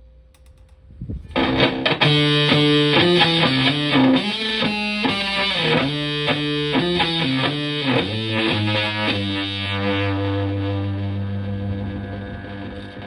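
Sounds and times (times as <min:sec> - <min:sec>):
fuzzed electric guitar riff: 0:01.3 - 0:13.0.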